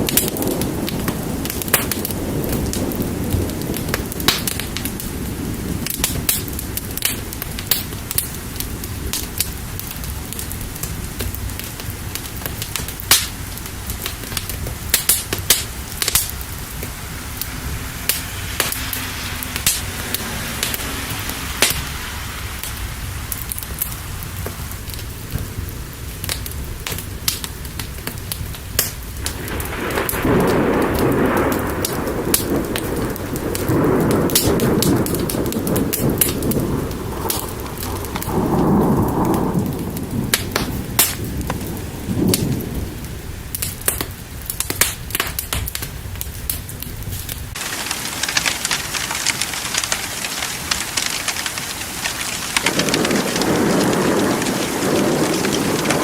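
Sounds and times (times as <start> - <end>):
steady rain: 0.0 - 56.0
thunder rumbling: 0.0 - 56.0
wood fire crackling: 0.0 - 56.0.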